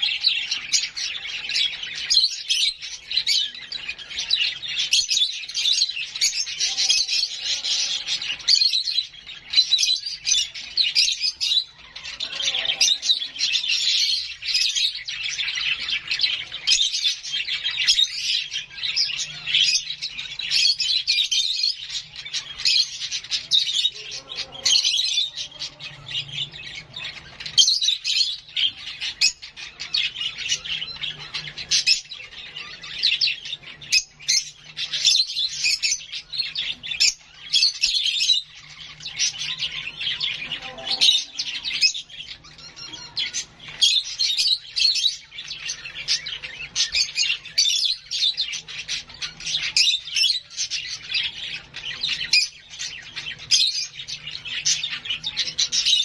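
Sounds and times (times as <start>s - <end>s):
bird chick shrill chirping: 0.0s - 56.0s.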